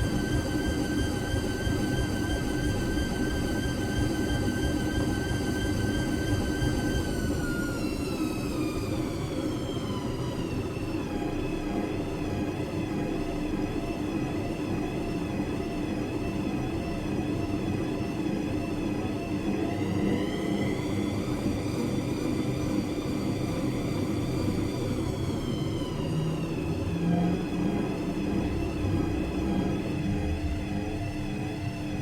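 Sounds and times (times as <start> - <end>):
washing machine motor whine: 0.0 - 32.0.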